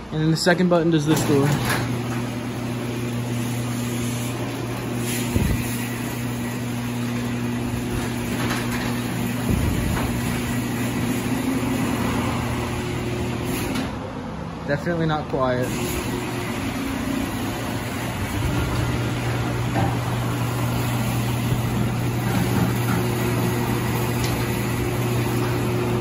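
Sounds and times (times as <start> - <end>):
garage door opener motor hum: 0.6 - 14.6, 15.4 - 26.0.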